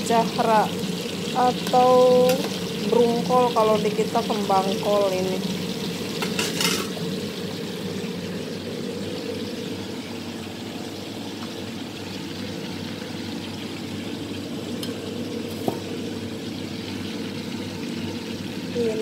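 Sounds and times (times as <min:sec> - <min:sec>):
oil bubbling in a wok: 0:00.0 - 0:19.0.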